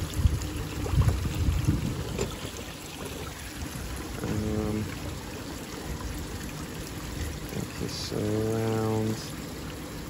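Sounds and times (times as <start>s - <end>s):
pond water running: 0.0s - 10.0s.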